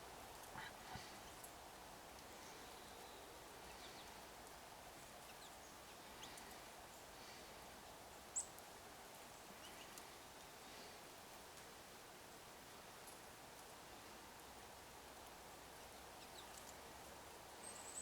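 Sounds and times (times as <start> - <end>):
low background hiss: 0.0 - 18.0
songbirds chirping: 0.0 - 18.0.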